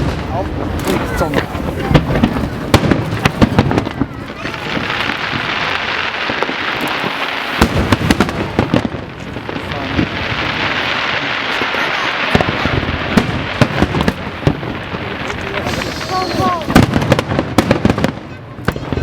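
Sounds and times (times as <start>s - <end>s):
fireworks bangs: 0.0s - 19.0s
fireworks crackling and hissing: 0.0s - 19.0s.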